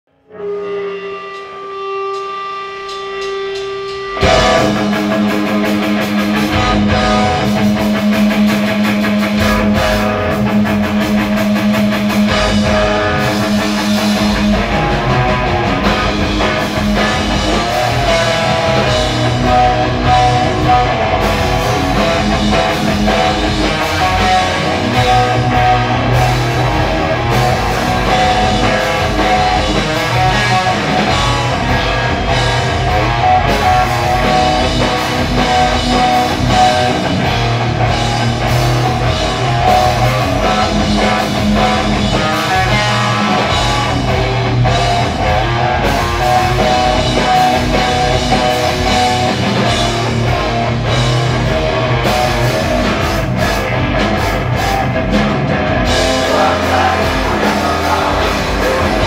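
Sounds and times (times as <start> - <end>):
metal band playing live: 0.3 - 59.0.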